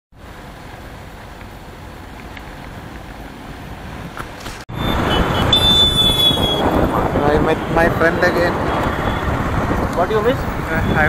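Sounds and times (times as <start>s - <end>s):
road noise: 0.1s - 11.0s
wind rush on microphone: 1.9s - 11.0s.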